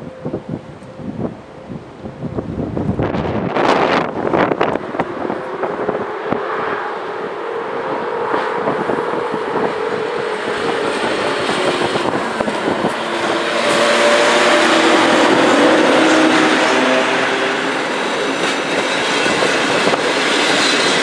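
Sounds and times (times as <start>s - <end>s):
electric locomotive whine: 0.0s - 21.0s
train wheels rumbling: 0.0s - 21.0s.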